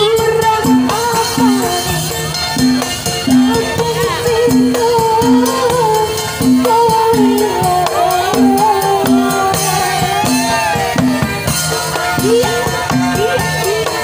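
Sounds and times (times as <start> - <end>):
electric keyboard melody: 0.0 - 14.0
hand drum beat: 0.0 - 14.0.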